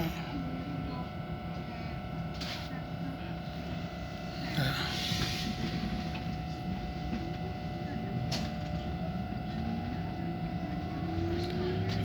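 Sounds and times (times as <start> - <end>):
train equipment hum: 0.0 - 12.0.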